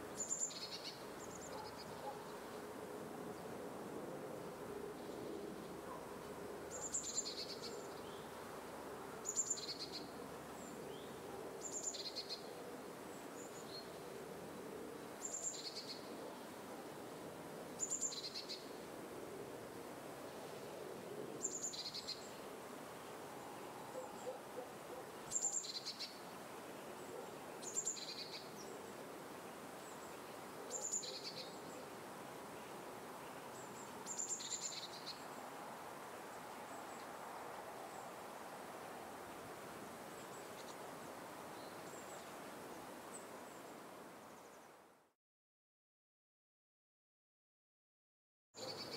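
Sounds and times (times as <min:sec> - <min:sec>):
outdoor background hiss: 0:00.0 - 0:45.2, 0:48.6 - 0:48.9.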